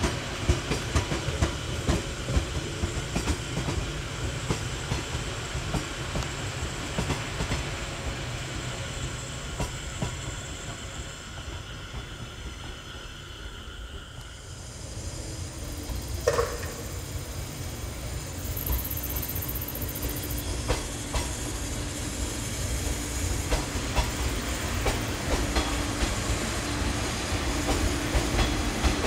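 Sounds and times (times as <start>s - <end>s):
train wheels clicking over rail joints: 0.0s - 14.4s, 15.0s - 29.0s.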